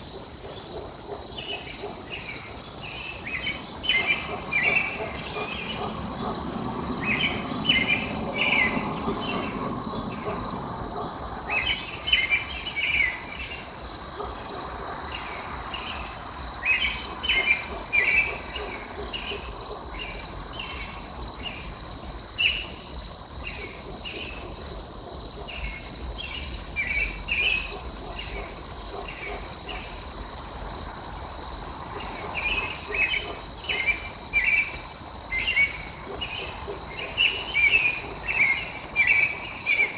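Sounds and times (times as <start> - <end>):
insects chorus: 0.0 - 39.9
songbird singing: 0.0 - 39.9.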